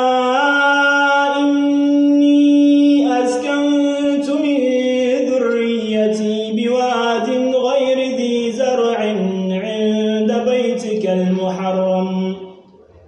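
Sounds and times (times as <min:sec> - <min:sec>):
man reciting melodically: 0:00.0 - 0:12.7.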